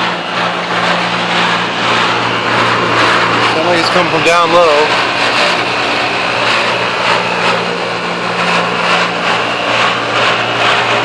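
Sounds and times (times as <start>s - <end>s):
harsh pulsing noise: 0.0s - 11.0s
heat pump low hum: 0.0s - 11.0s.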